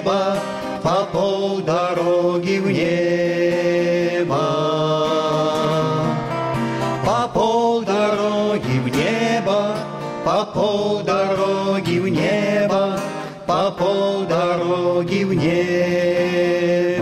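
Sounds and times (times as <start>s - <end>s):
acoustic guitar: 0.0s - 17.0s
men singing: 0.0s - 17.0s.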